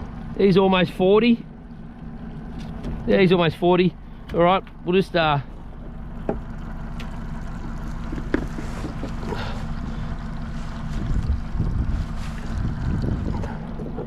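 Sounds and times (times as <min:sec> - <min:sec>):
outboard motor running: 0:00.0 - 0:14.0
water sloshing against hull: 0:00.0 - 0:14.0.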